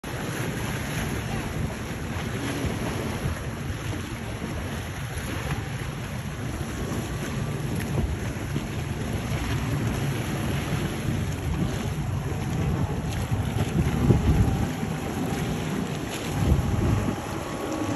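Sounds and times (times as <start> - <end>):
motorboat engine drone: 0.0 - 17.9
waves washing: 0.0 - 17.9
wind buffeting microphone: 0.1 - 17.9.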